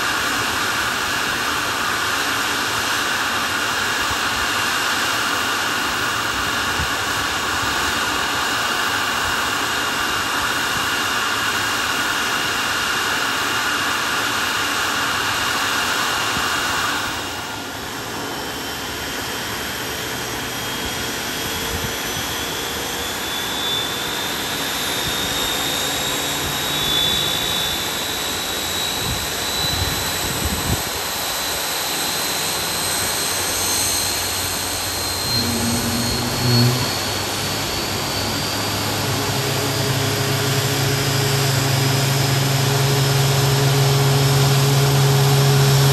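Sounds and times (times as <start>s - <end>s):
jet engine rushing hiss with whistle: 0.0s - 45.9s
jet engine whine rising in pitch: 0.0s - 45.9s.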